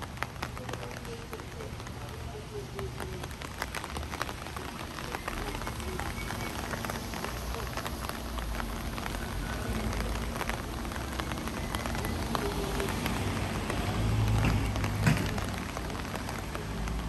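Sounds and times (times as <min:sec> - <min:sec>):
rain drops hitting: 0:00.0 - 0:17.0
rain hiss: 0:00.0 - 0:17.0.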